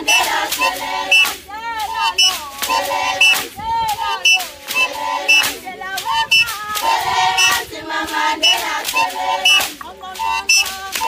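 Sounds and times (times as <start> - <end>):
sharp rhythmic beats: 0.0 - 11.0
women singing together: 0.0 - 11.0.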